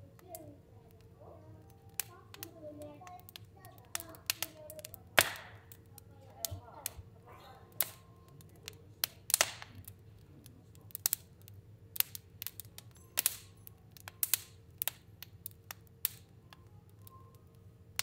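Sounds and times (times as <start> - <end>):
faint low hum: 0.0 - 18.0
fire crackling and popping: 0.0 - 18.0.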